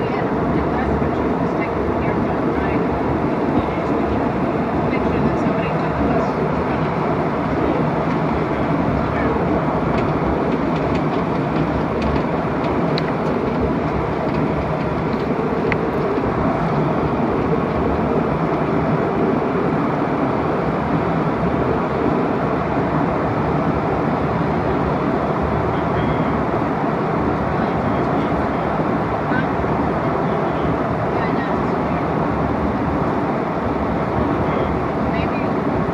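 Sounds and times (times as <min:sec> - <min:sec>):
jet airliner cabin roar: 0:00.0 - 0:35.9.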